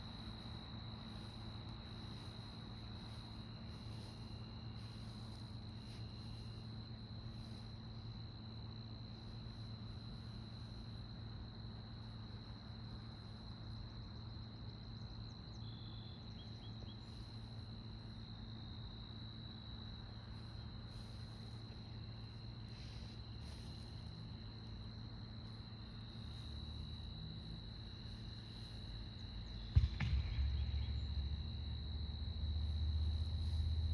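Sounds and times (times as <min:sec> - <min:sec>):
insects trilling: 0:00.0 - 0:33.9
low steady hum: 0:00.0 - 0:33.9.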